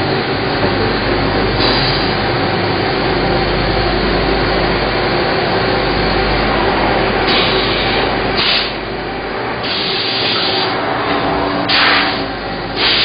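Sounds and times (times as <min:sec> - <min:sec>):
machines running with low hum: 0:00.0 - 0:13.0.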